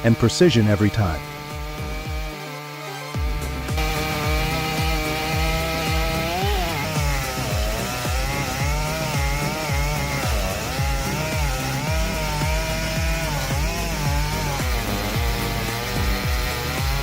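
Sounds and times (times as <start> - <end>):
chainsaw cutting wood: 0.0 - 17.0
background music with steady beat: 1.4 - 17.0.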